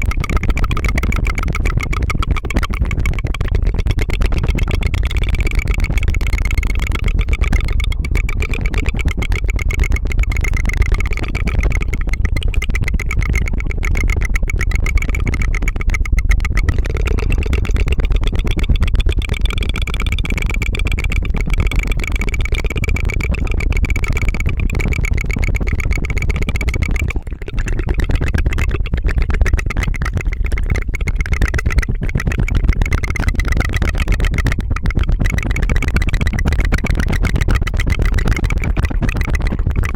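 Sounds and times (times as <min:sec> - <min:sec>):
tongue fluttering trill: 0:00.0 - 0:39.9.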